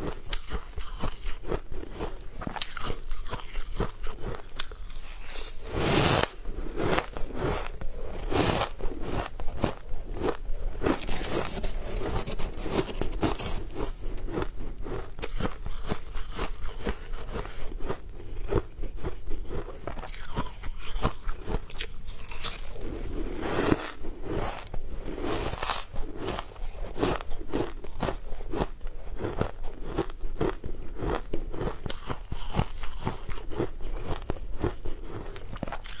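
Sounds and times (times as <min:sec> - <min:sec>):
crunching and chewing ice: 0:00.0 - 0:36.0.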